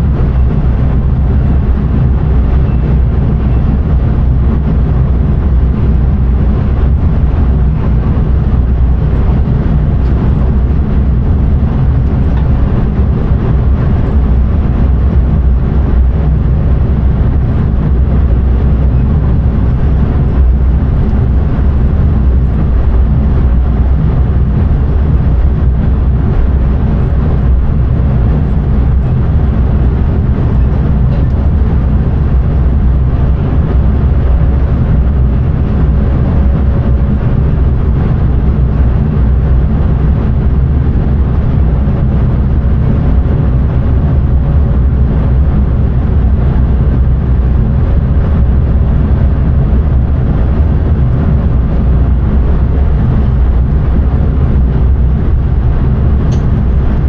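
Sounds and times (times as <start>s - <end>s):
train rumble from cab: 0.0s - 57.0s.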